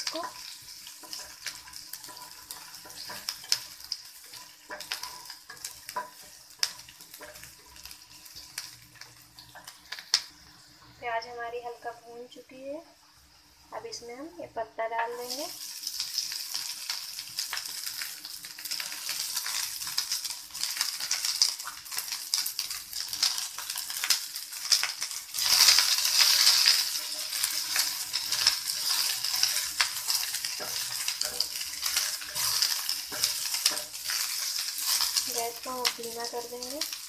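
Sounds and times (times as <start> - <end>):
spatula scraping a pan: 0.0 - 10.1, 15.7 - 36.9
onions sizzling in hot oil: 0.0 - 37.0.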